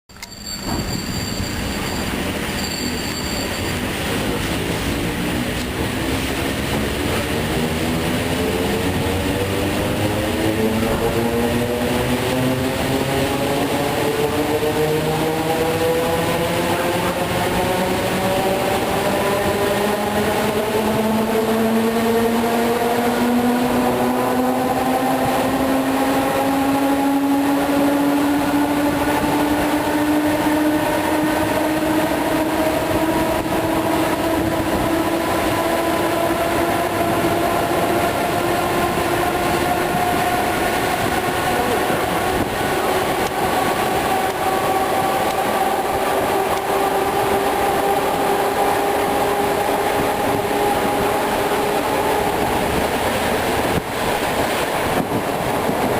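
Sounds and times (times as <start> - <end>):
train wheels rumbling on rails: 0.1 - 55.9
traction motor whine rising: 3.9 - 54.0.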